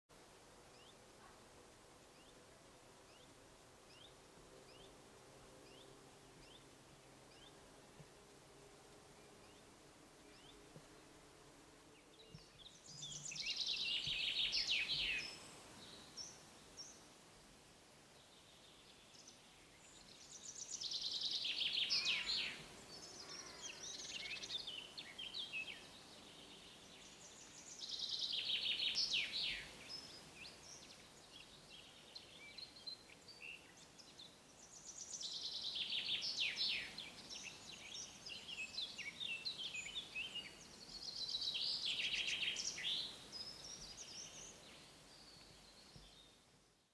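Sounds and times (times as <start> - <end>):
songbird singing: 0.2 - 1.4, 2.0 - 17.2, 18.0 - 46.9.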